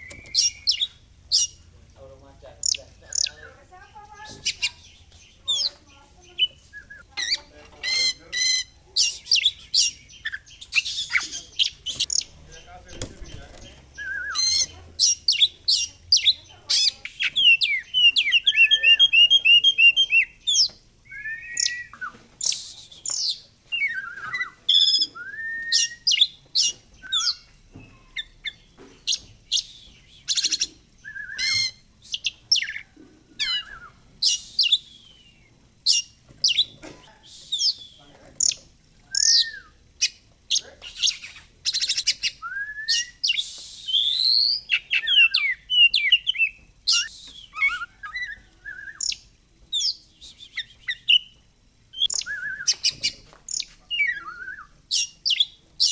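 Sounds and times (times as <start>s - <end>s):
songbird singing varied song: 0.0s - 55.9s.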